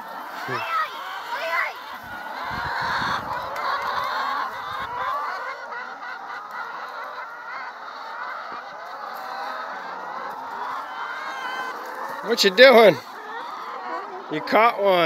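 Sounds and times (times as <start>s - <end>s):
hens clucking and squawking: 0.0s - 15.0s.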